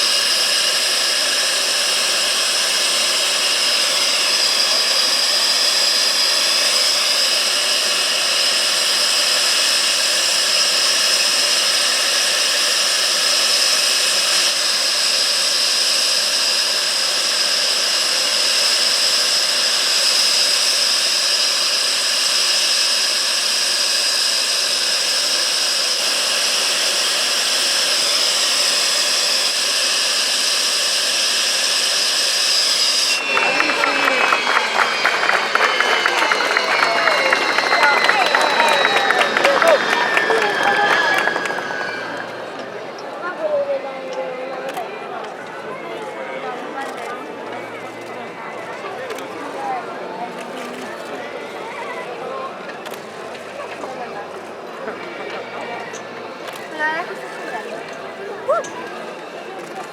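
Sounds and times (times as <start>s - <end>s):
jet engine whine: 0.0s - 59.9s.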